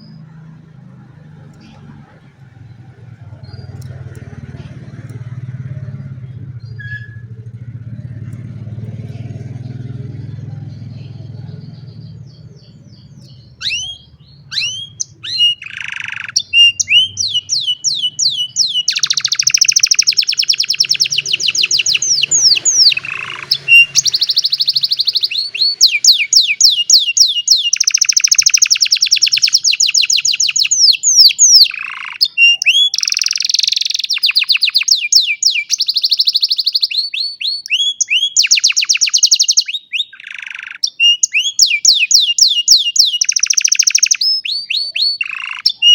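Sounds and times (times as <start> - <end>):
canary singing with trills: 0.0 - 45.9.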